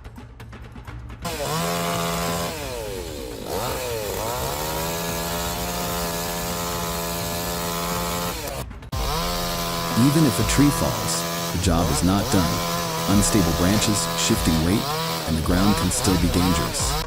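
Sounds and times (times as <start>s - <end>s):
chainsaw engine revving: 1.2s - 17.0s.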